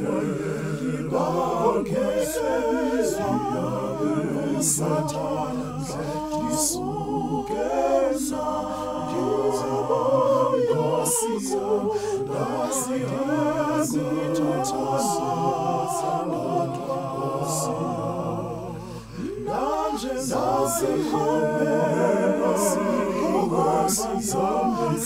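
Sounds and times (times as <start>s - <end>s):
vocal group singing in harmony: 0.0s - 25.0s.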